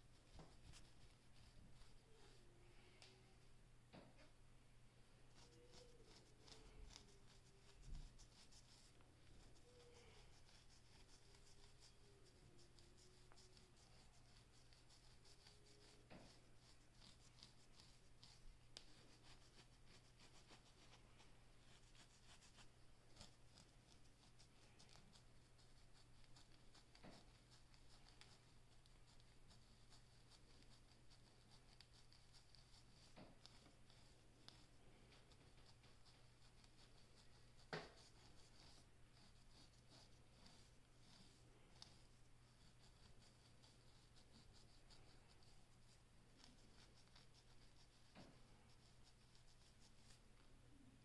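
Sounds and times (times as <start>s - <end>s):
fingernails scratching scalp: 5.3s - 50.2s.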